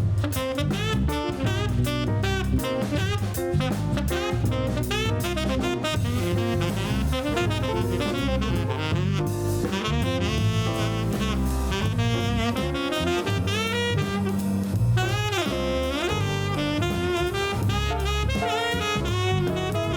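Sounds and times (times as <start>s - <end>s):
bass: 0.0s - 19.9s
drum kit: 0.0s - 19.9s
saxophone lead: 0.0s - 19.9s.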